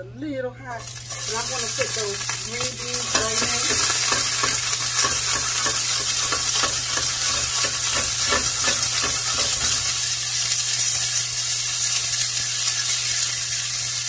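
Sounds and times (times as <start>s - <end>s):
pan scraping on burner grate: 0.8s - 13.2s
beans sizzling in oil: 0.8s - 14.0s.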